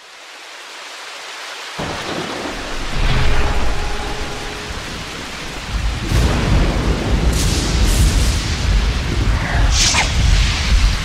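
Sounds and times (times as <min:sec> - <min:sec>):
steady rain hiss: 0:00.0 - 0:11.0
deep thunder rumble: 0:01.8 - 0:11.0.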